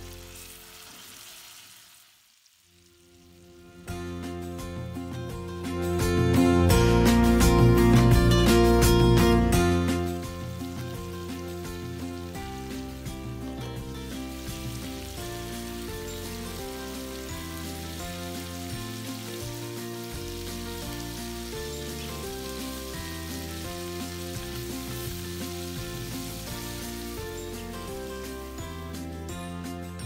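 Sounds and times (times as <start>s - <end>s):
chicken sizzling in oil: 0.0s - 4.0s, 9.9s - 30.0s
background music with bass line: 3.8s - 30.0s.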